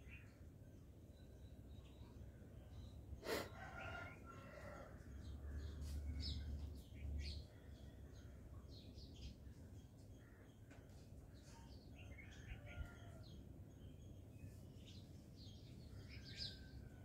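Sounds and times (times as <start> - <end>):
small birds chirping: 0.0 - 16.7.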